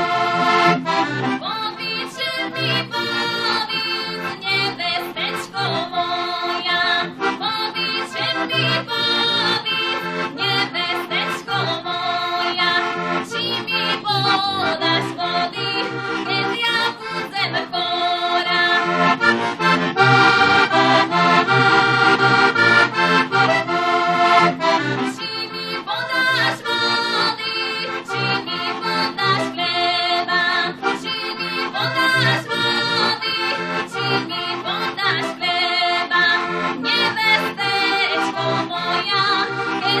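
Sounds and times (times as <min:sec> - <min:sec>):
button accordion folk tune: 0:00.0 - 0:40.0.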